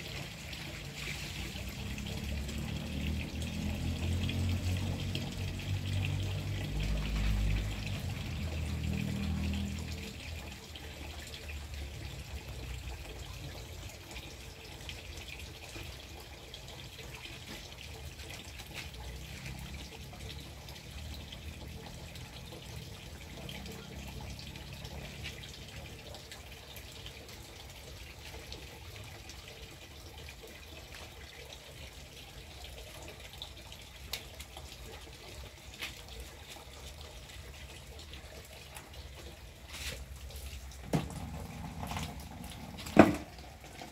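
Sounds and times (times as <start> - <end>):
rain falling on plants: 0.0 - 43.9.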